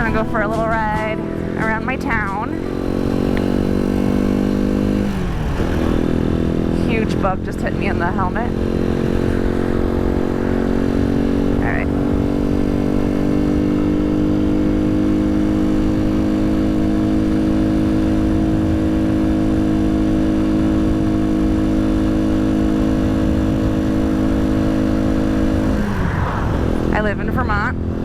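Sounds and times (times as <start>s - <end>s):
motorcycle engine cruising: 0.0s - 28.0s
road noise: 0.0s - 28.0s
wind noise: 0.0s - 28.0s.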